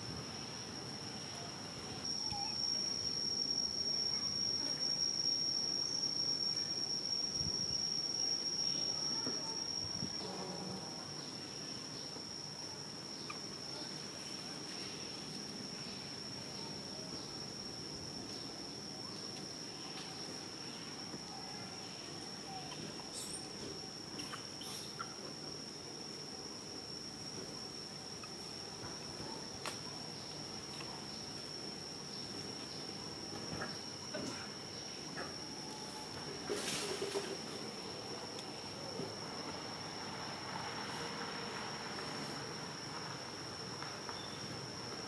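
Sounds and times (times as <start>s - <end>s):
insect high-pitched drone: 0.0s - 45.0s
low background noise: 0.0s - 45.0s.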